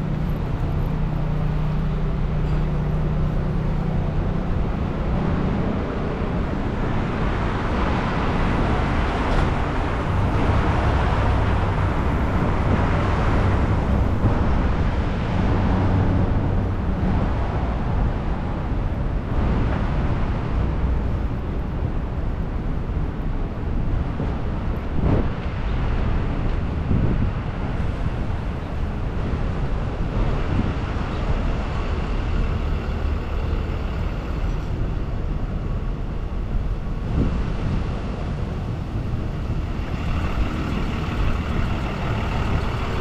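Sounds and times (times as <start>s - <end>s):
cars passing: 0.0s - 43.0s
low engine hum: 0.0s - 43.0s
road noise: 0.0s - 43.0s.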